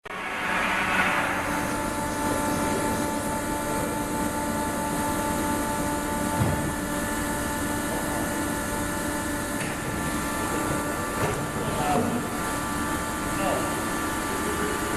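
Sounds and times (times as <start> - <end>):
industrial machinery humming: 0.0 - 14.9
machine whining tones: 0.0 - 14.9.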